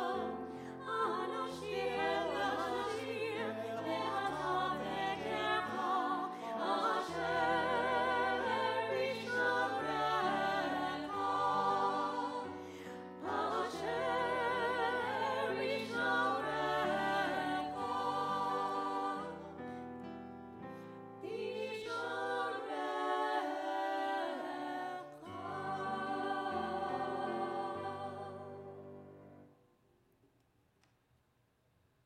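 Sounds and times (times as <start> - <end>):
voices singing in harmony: 0.0 - 29.2.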